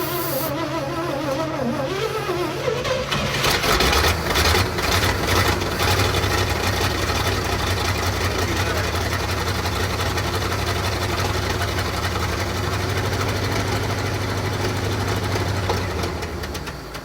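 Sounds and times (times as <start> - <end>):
dump truck engine stalling: 0.0 - 17.0.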